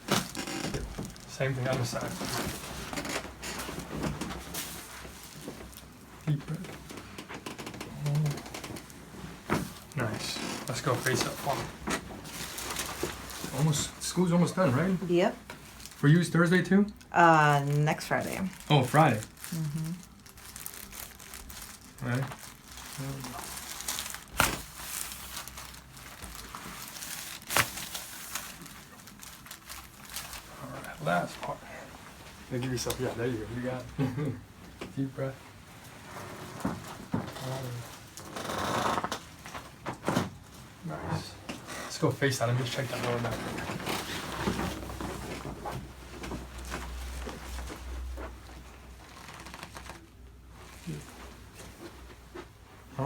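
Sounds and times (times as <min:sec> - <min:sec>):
crinkling rustle on treatment table: 0:00.0 - 0:16.2, 0:17.0 - 0:40.9, 0:41.5 - 0:52.9.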